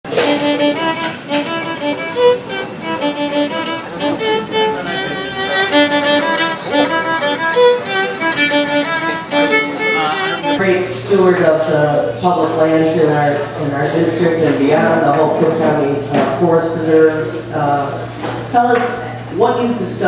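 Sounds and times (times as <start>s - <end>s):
violin playing lively tune: 0.1s - 20.0s.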